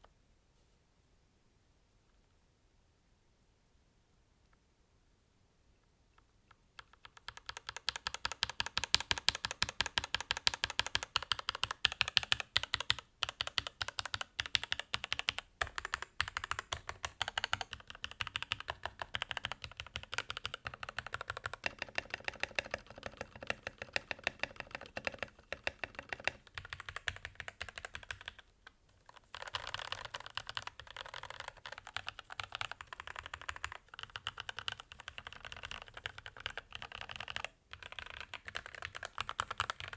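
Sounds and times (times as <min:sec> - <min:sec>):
mechanical keyboard typing: 0:06.8 - 0:39.9.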